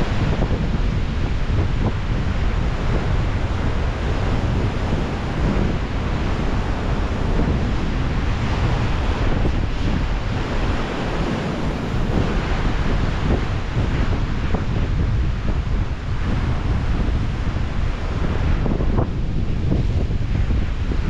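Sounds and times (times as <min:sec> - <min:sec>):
ocean surf over rocks: 0:00.0 - 0:21.0
wind buffeting microphone: 0:00.0 - 0:21.0.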